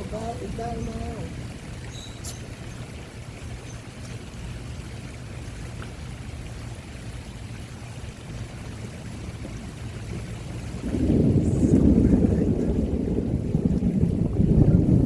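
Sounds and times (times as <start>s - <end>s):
water rushing with low rumble: 0.0s - 15.0s.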